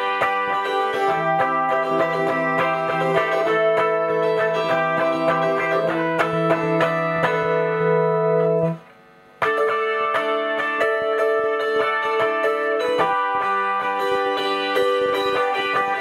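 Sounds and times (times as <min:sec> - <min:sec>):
electric mandolin picking: 0:00.0 - 0:16.0.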